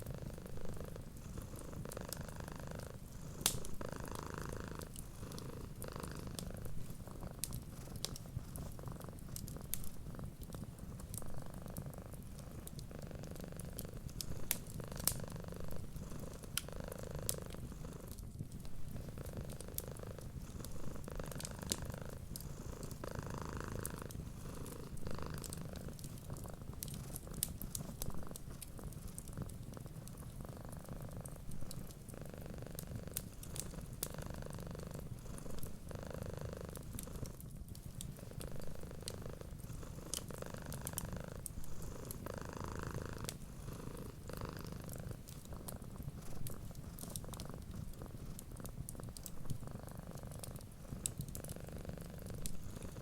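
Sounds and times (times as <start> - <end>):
cat purring: 0.0 - 53.0
wood fire crackling: 0.0 - 53.0.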